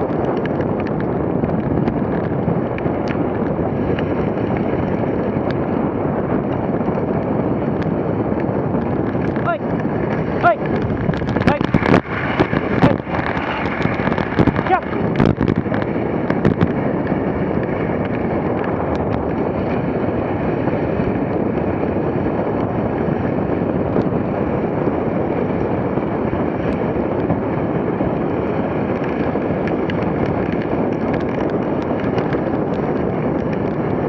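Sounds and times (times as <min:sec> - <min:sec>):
sled runners sliding over snow: 0:00.0 - 0:34.0
wind on microphone: 0:00.0 - 0:34.0.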